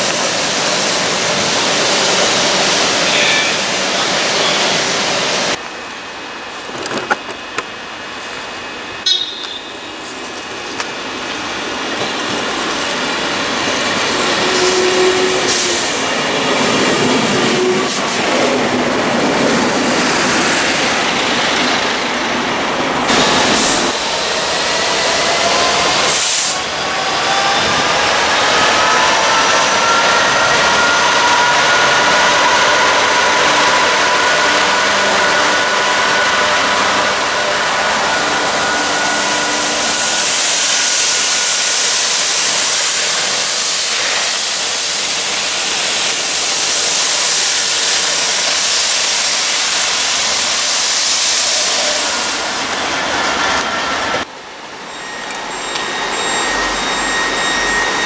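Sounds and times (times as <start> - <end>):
train passing close by: 0.0 - 58.0.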